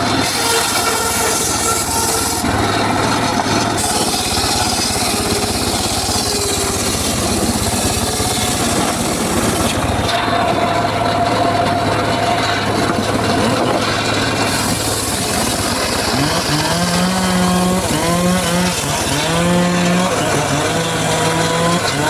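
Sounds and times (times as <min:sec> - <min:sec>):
circular saw cutting wood: 0:00.0 - 0:22.0.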